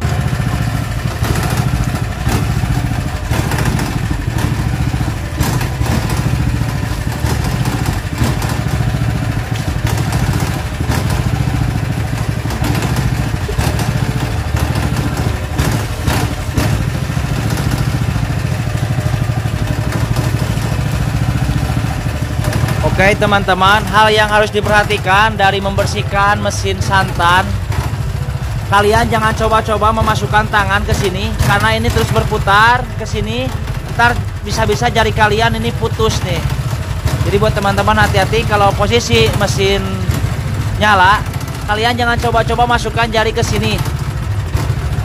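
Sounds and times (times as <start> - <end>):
knocks and clatters: 0.0 - 45.0
petrol engine running steadily: 0.0 - 45.0.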